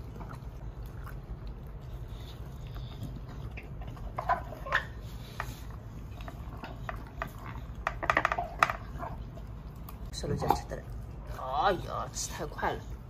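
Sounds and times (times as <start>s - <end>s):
dogs chewing and crunching food: 0.0s - 13.0s.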